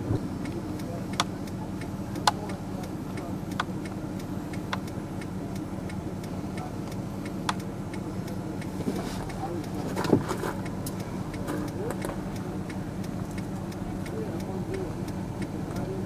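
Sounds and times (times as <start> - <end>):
vehicle engine idling: 0.0 - 16.0
sharp ticks: 0.4 - 9.8, 10.5 - 16.0.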